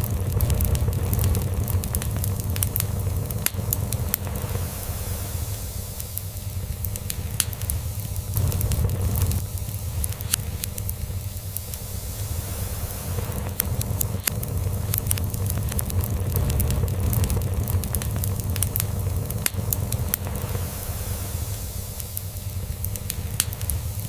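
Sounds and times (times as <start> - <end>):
log fire crackling: 0.0 - 24.0.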